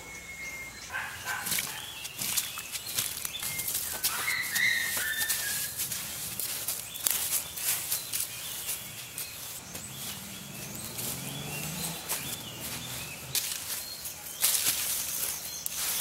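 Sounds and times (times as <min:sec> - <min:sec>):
small birds chirping: 0:00.0 - 0:16.0
footsteps crunching on leaf litter: 0:00.9 - 0:16.0.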